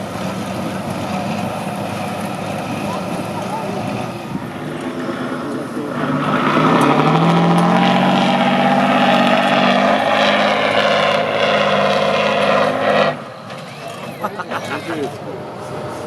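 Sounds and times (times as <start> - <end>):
diesel engine revving high: 0.0 - 16.0.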